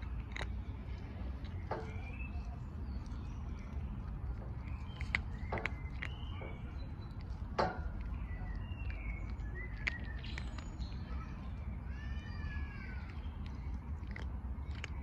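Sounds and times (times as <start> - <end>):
birds chirping: 0.0 - 15.0
cat crunching dry kibble: 0.0 - 15.0
steady low rumble: 0.0 - 15.0.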